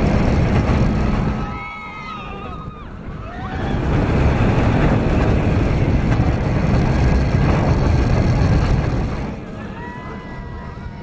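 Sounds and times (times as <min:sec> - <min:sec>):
roller coaster train on track: 0:00.0 - 0:11.0
wind buffeting microphone: 0:00.0 - 0:11.0.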